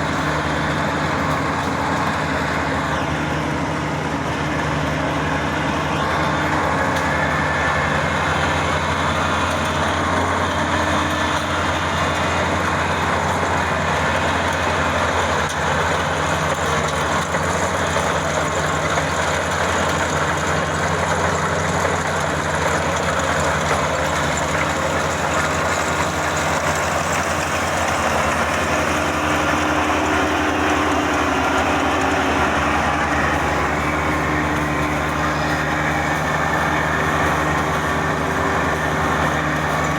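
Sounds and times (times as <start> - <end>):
diesel engine drone: 0.0 - 39.9
machinery clatter: 0.0 - 39.9.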